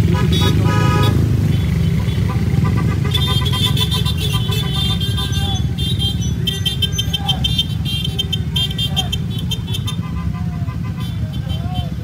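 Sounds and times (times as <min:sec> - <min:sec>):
horns beeping: 0:00.0 - 0:12.0
motorcycle engines rumbling: 0:00.0 - 0:12.0.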